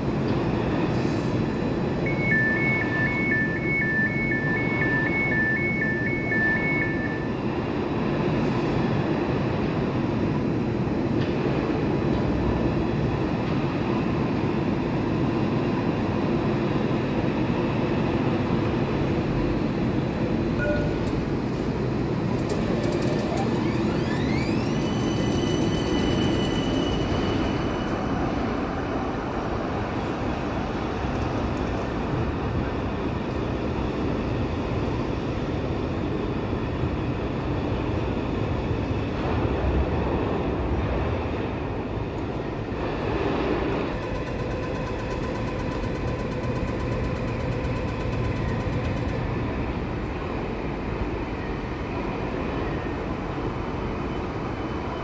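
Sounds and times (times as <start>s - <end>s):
tram motor whine: 0.0s - 55.0s.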